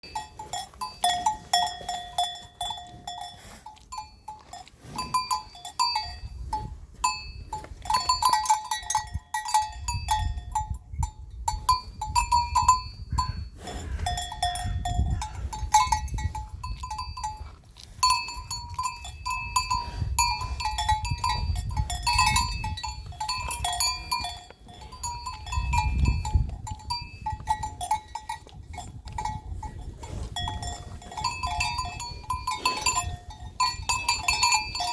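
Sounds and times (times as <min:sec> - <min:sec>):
animal bells clanking: 0:00.0 - 0:34.9.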